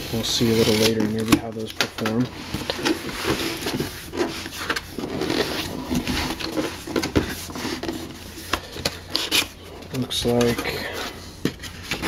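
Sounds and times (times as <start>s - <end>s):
cardboard rubbing and scraping: 0.0s - 12.0s.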